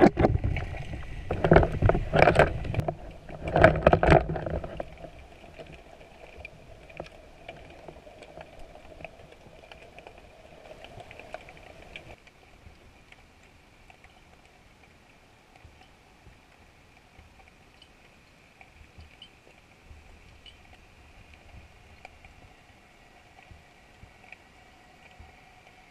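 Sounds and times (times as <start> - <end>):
small underwater clicks and crackles: 0.0 - 25.9.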